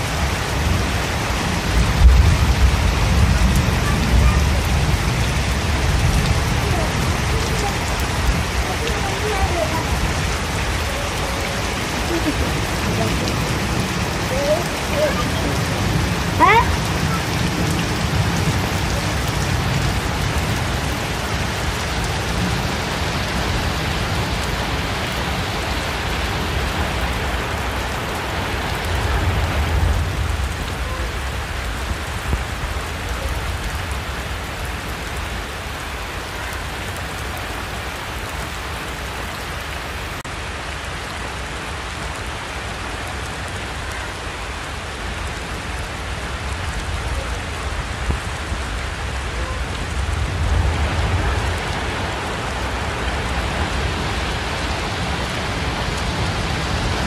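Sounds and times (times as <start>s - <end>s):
rain pouring on foliage: 0.0s - 57.0s.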